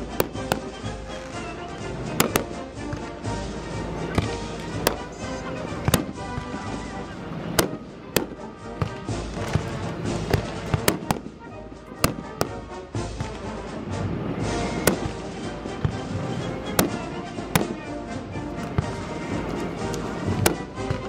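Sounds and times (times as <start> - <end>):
firework shells bursting: 0.0 - 21.0
music playing: 0.0 - 21.0.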